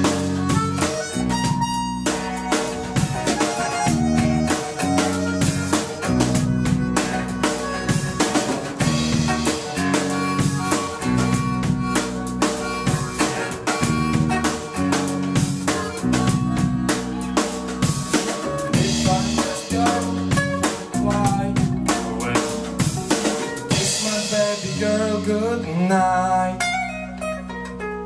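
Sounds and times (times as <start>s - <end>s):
accordion: 0.0s - 25.9s
drum kit beat: 0.0s - 27.9s
bass: 0.0s - 28.0s
guitar: 0.0s - 28.0s.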